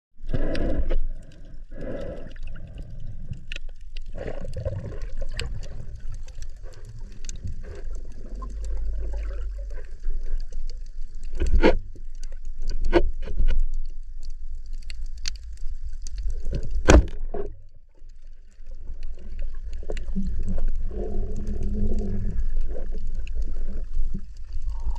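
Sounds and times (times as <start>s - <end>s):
water sloshing and gurgling: 0.2s - 24.9s.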